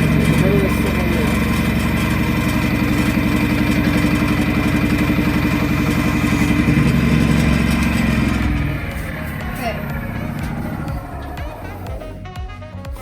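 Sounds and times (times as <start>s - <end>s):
lathe motor humming: 0.0s - 13.0s.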